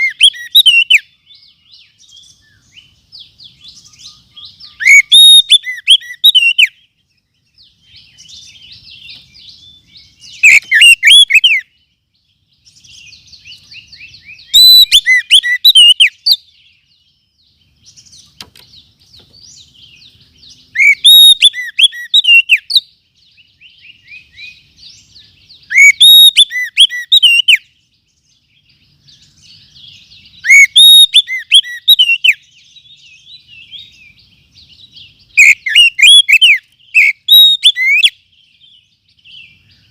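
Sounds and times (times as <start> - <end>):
bird whistled song phrase: 0.0 - 12.0, 12.6 - 18.6, 19.4 - 39.9
soft chattering bird twitter: 0.0 - 39.9.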